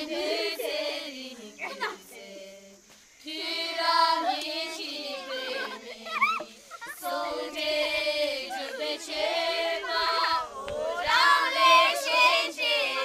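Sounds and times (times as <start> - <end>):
girls singing together: 0.0 - 13.0.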